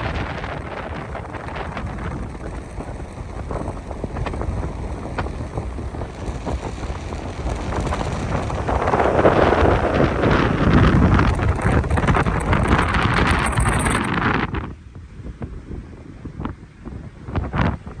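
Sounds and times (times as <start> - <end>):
heavy surf: 0.0 - 18.0
wind buffeting microphone: 0.0 - 18.0.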